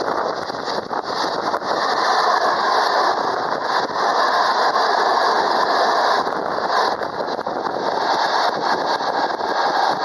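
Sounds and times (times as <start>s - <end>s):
train wheels rushing on rails: 0.0s - 10.0s.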